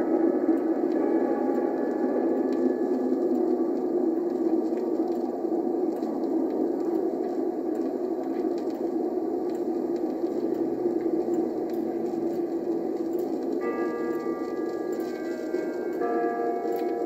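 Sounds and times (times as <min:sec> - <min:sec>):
vinyl surface crackle: 0:01.0 - 0:17.0.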